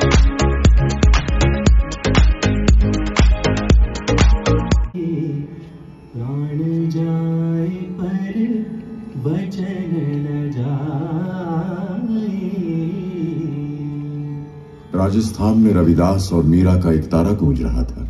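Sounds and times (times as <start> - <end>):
indian classical melody: 0.0 - 18.0.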